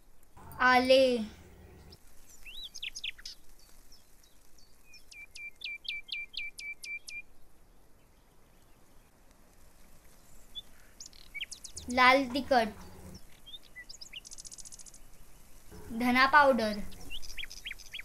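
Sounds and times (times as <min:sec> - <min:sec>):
small birds chirping: 0:00.4 - 0:09.2, 0:09.8 - 0:18.0.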